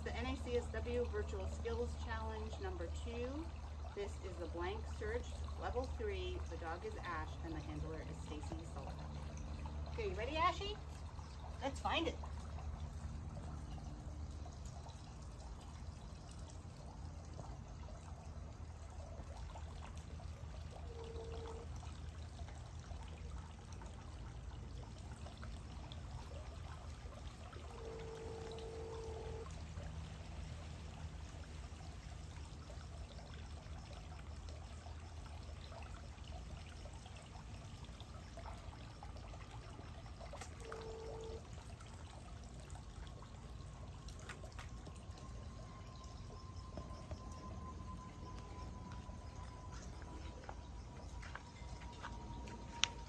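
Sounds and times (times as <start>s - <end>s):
low even hum: 0.0s - 53.0s
water trickling: 0.0s - 53.0s.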